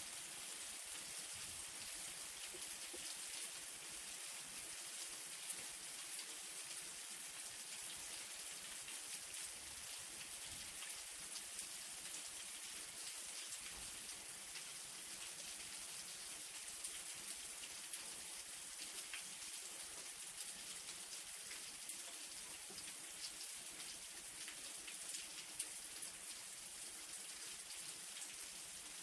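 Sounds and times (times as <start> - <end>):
light rain hiss: 0.0 - 29.0.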